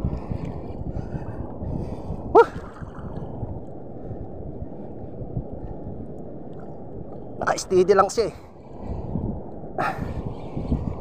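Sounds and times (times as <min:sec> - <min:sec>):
moving water: 0:00.0 - 0:10.1
wind on microphone: 0:00.0 - 0:11.0.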